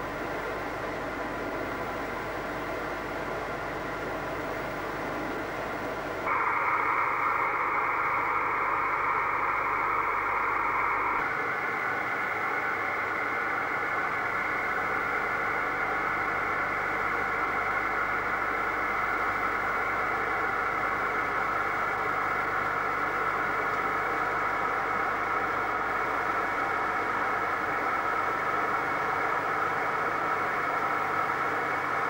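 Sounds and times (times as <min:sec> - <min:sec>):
radio static hiss: 0:06.3 - 0:32.0.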